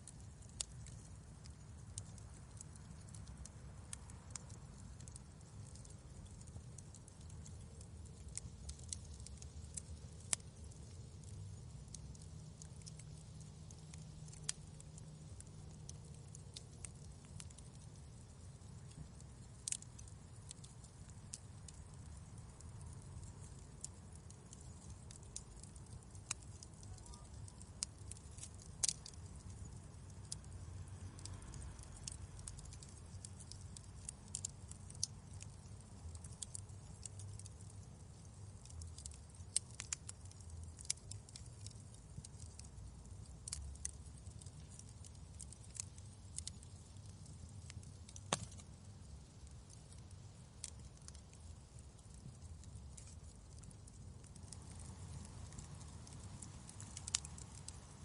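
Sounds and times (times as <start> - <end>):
burning wood snapping and popping: 0.0 - 58.0
low fire rumble: 0.0 - 58.0.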